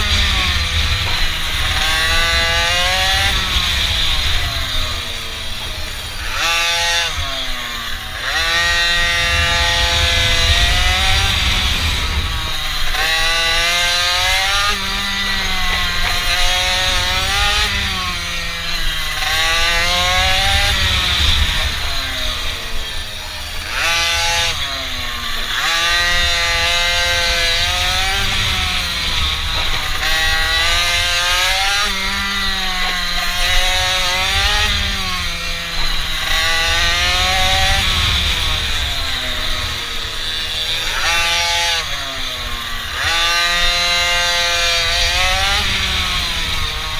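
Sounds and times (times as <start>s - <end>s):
small motorbike engine revving: 0.0s - 46.9s.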